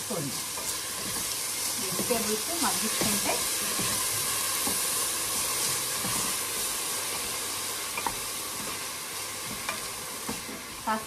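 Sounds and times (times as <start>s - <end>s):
vegetables sizzling in oil: 0.0s - 11.0s
wooden spatula stirring in pot: 0.3s - 11.0s.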